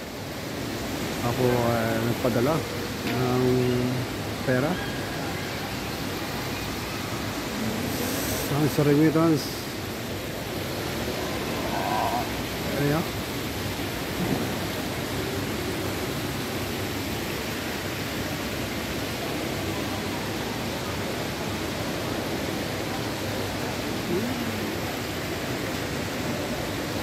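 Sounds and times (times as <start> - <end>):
mall ambience hiss: 0.0 - 27.0.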